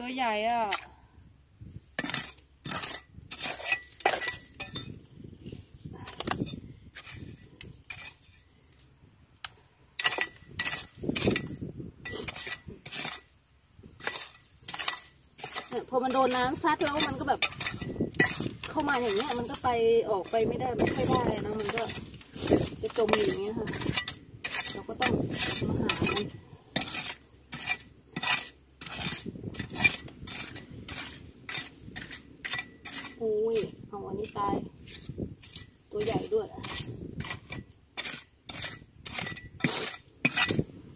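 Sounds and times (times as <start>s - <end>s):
metal rake scraping wet gravel: 1.9s - 8.4s, 10.0s - 13.4s, 14.0s - 40.8s.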